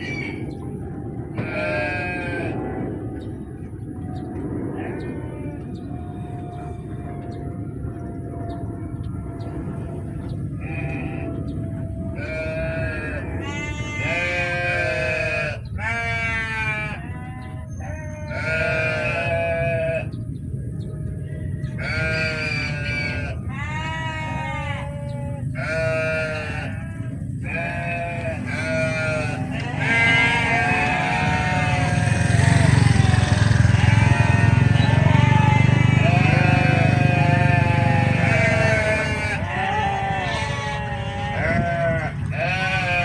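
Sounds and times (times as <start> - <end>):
low rumble: 0.0 - 43.0
animals bleating: 1.4 - 2.6, 4.7 - 7.1, 9.9 - 20.2, 21.6 - 43.0.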